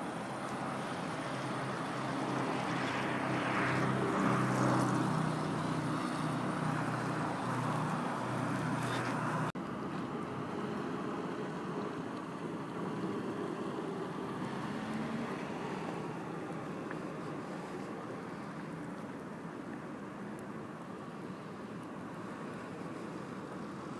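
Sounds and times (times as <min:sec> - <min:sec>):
outdoor street noise: 0:00.0 - 0:23.9.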